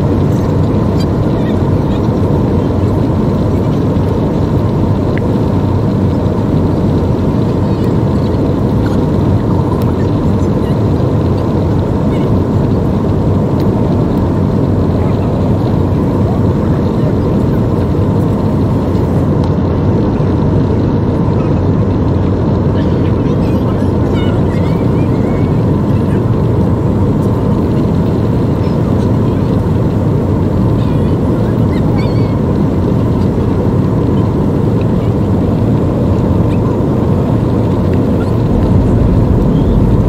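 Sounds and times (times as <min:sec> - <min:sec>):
faint steady hum: 0:00.0 - 0:40.0
jet cabin engine and air noise: 0:00.0 - 0:40.0.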